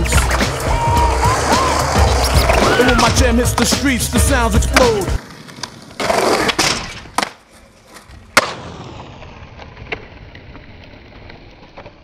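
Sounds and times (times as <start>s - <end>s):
skateboard wheels rolling on asphalt: 0.1s - 12.0s.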